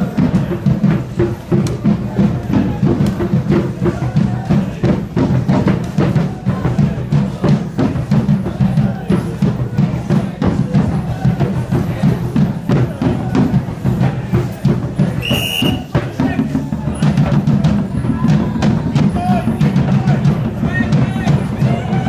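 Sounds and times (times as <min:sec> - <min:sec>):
fast drumming with sticks: 0:00.0 - 0:22.0.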